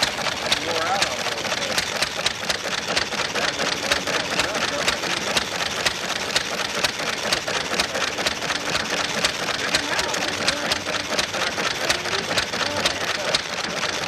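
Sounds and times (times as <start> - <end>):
stationary engine clattering: 0.0 - 14.0.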